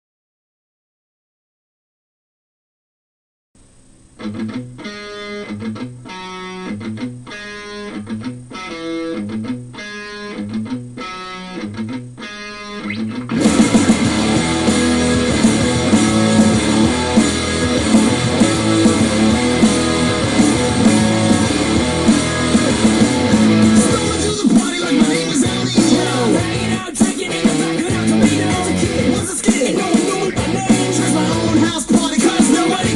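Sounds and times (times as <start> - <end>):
electric guitar chords: 4.0 - 32.9
rock band playing: 4.3 - 32.9.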